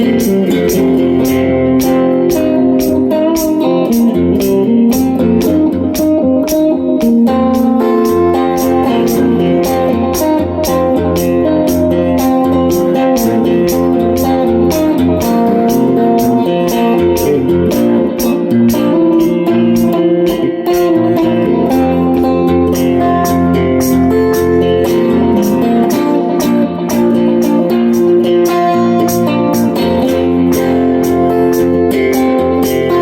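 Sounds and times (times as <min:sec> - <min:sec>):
guitar music: 0:00.0 - 0:33.0.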